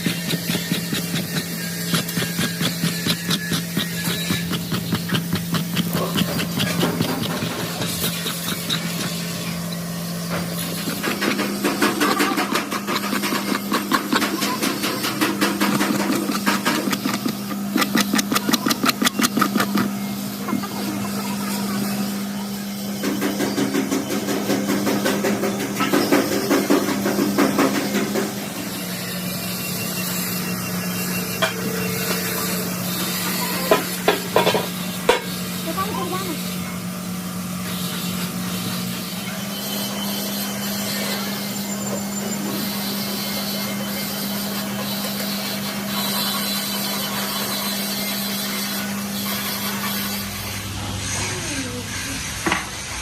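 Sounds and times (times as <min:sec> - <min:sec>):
engine running with rapid ticking: 0:00.0 - 0:42.6
workshop machine hum with hiss: 0:00.0 - 0:53.0.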